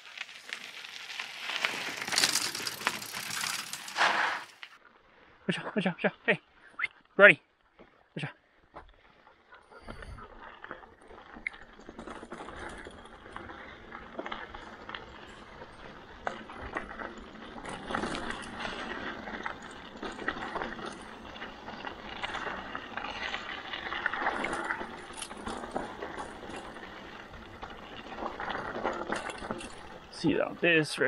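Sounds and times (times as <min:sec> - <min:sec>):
bike clicks and rattles: 0:00.0 - 0:04.8, 0:08.9 - 0:30.8
bike tyres on rough trail: 0:00.0 - 0:31.0.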